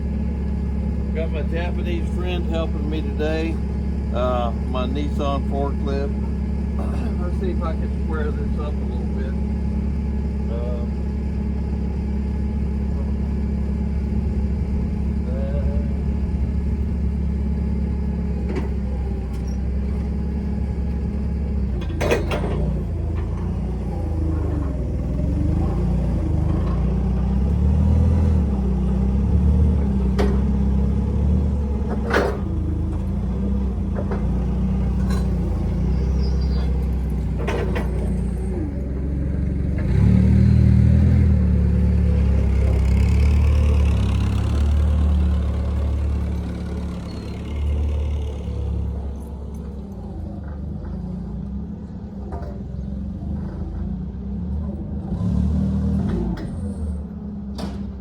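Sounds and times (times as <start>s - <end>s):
forklift engine running: 0.0s - 58.0s.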